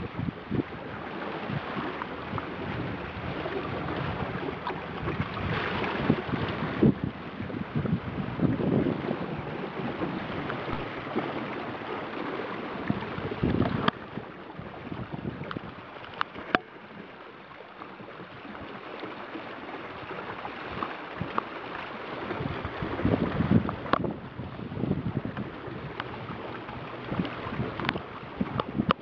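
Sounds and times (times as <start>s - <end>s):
wind buffeting microphone: 0.0s - 17.1s, 22.1s - 29.0s
water splashing along hull: 0.0s - 29.0s.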